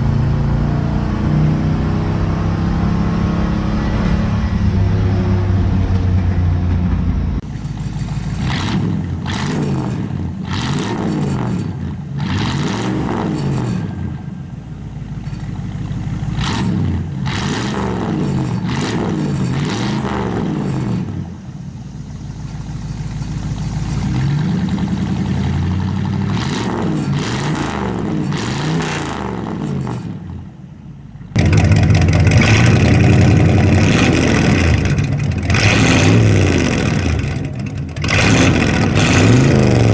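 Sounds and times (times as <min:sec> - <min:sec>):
car engine revving: 0:00.0 - 0:30.5, 0:31.3 - 0:39.9.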